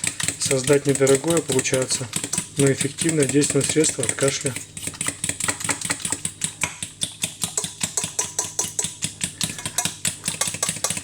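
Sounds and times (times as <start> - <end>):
utensil clinking against pot: 0.0 - 6.2, 7.4 - 11.0.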